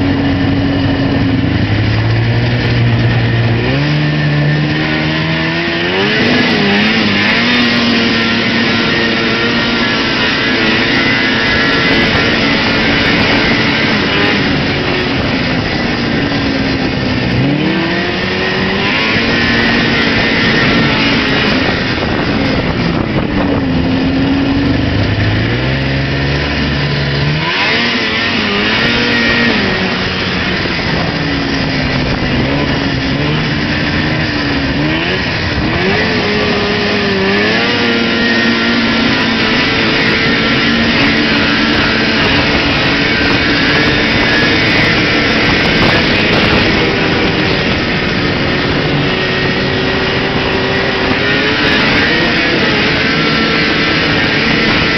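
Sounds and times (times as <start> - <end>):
constant rushing noise: 0.0 - 54.9
snowmobile engine running: 0.0 - 54.9.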